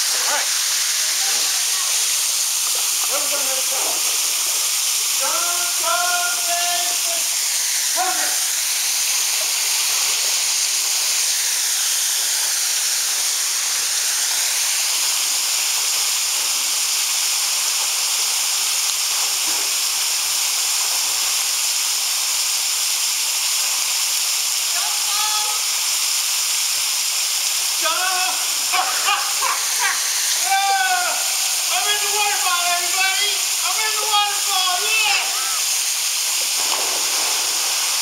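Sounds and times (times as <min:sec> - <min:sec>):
waterfall hiss: 0:00.0 - 0:38.0.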